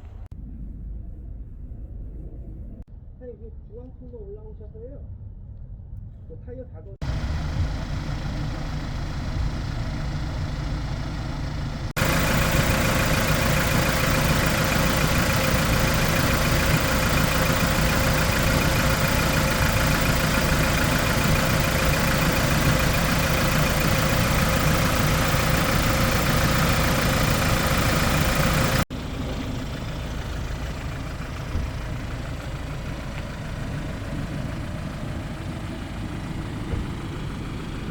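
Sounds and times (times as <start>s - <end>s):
diesel engine idling: 7.0s - 37.9s.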